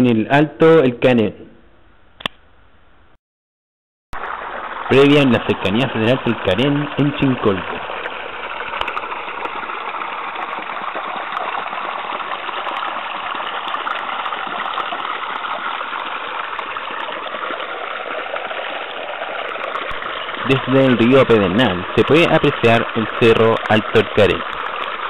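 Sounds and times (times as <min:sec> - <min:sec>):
stream running over stones: 0:04.2 - 0:25.0.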